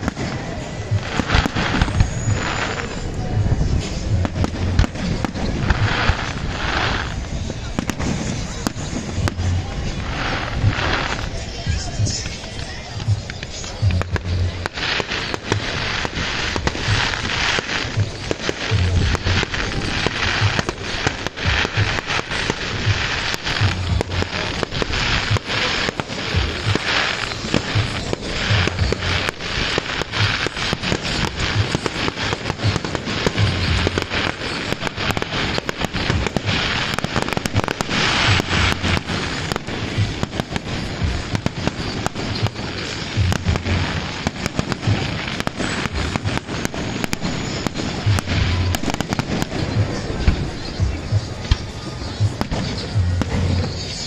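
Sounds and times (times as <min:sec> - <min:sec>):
fireworks booms: 0:00.0 - 0:54.0
fireworks popping and crackling: 0:00.0 - 0:54.0.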